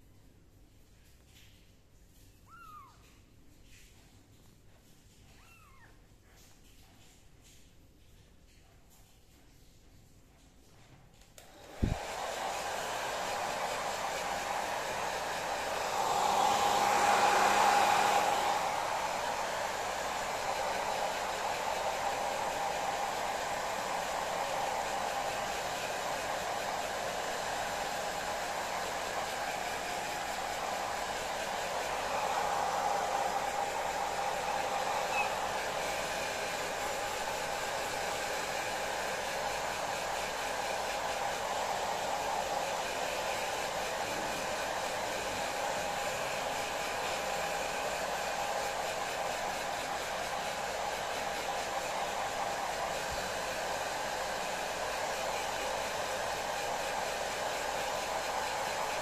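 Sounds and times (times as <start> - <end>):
hair dryer running: 11.4 - 59.0.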